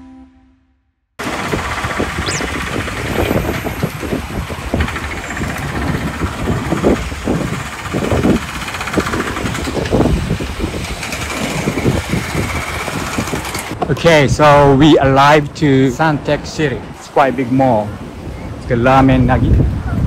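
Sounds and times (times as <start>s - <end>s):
busy road traffic: 1.2s - 20.0s.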